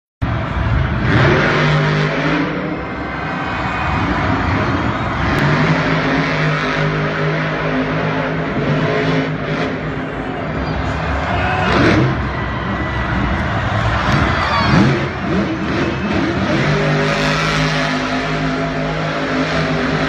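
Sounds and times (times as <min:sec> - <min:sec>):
monster truck engine revving: 0:00.2 - 0:20.0.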